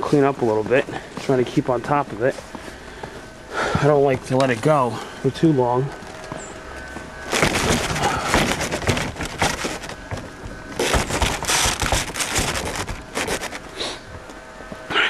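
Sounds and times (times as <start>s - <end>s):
footsteps crunching on snow: 0.0s - 15.0s.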